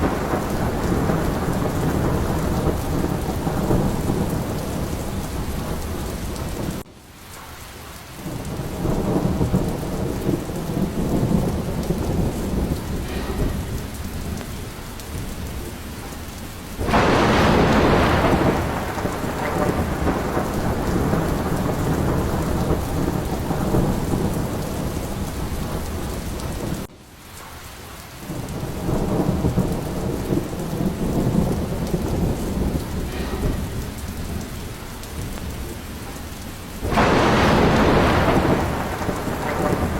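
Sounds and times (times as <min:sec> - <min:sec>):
loud thunderclap: 0:00.0 - 0:06.9, 0:08.2 - 0:26.9, 0:28.2 - 0:39.9
rolling thunder rumbling: 0:00.0 - 0:06.9, 0:07.7 - 0:26.9, 0:28.2 - 0:39.9
heavy rain falling: 0:00.0 - 0:39.9.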